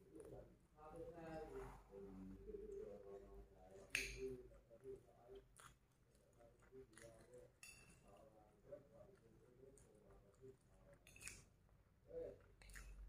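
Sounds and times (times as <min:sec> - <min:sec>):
faint chewing of noodles: 0:00.0 - 0:13.0.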